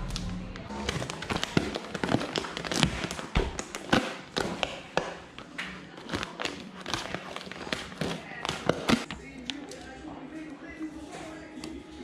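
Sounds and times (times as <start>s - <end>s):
vinyl film crackling: 0.0s - 12.0s.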